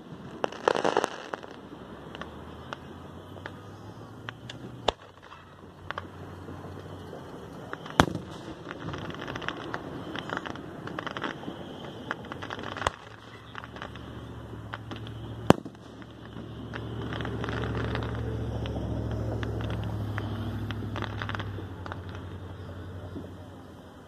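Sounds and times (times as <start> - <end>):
fireworks booms: 0.0 - 23.7
fireworks crackling: 0.0 - 24.0.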